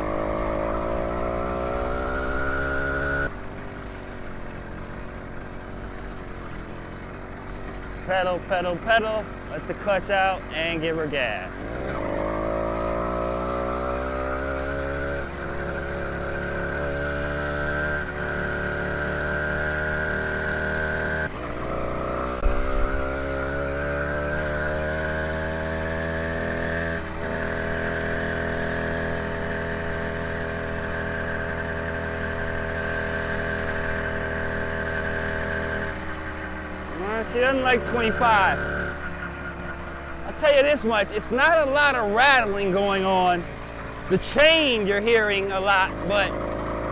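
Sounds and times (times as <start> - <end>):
small motorbike engine accelerating: 0.0 - 46.9.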